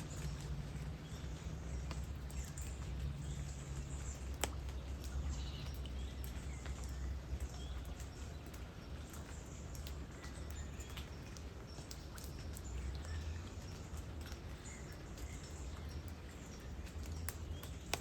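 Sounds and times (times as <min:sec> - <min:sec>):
light rain falling: 0:00.0 - 0:18.0
water drips and taps: 0:00.0 - 0:18.0.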